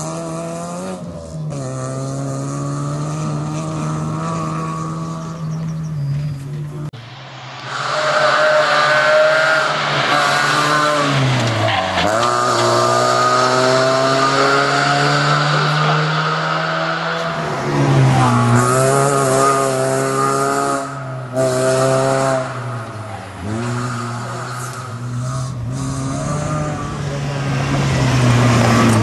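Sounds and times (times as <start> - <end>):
rally car engine at high revs: 0.0 - 6.9, 7.6 - 29.0.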